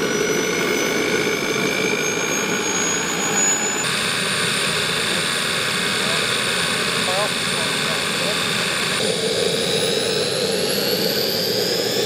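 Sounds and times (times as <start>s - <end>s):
high turbine whine: 0.0s - 12.0s
spinning propeller noise: 0.0s - 12.0s.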